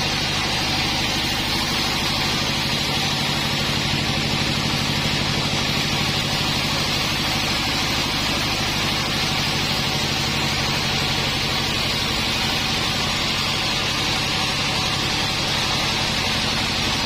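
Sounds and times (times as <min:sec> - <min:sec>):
engine hum: 0:00.0 - 0:17.0
saw hissing: 0:00.0 - 0:17.0.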